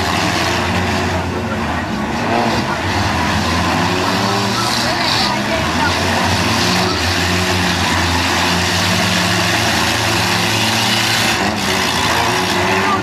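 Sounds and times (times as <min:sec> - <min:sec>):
car engines running loudly: 0:00.0 - 0:13.0.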